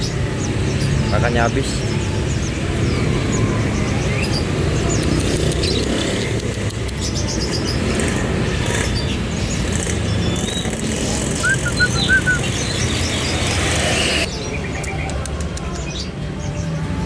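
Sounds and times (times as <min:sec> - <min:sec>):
low traffic rumble: 0:00.0 - 0:17.0
small birds chirping: 0:00.0 - 0:17.0.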